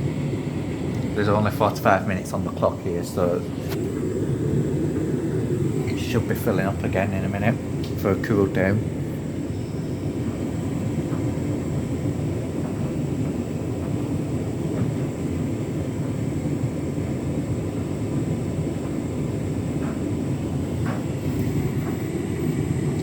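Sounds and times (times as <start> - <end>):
washing machine motor rumble: 0.0 - 23.0.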